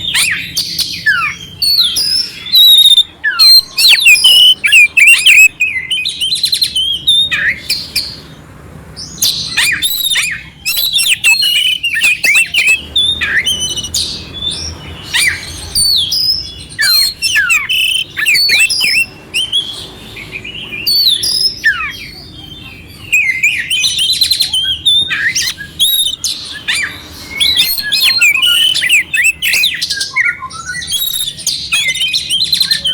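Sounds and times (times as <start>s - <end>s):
songbird singing varied whistles: 0.0s - 8.2s, 9.0s - 32.9s.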